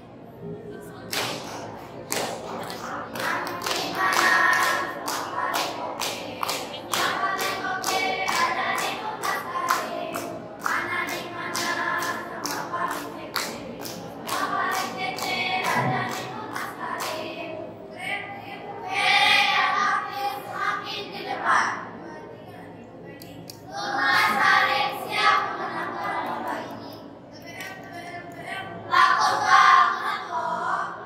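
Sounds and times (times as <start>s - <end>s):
girls singing together: 1.1s - 22.4s, 23.3s - 31.0s.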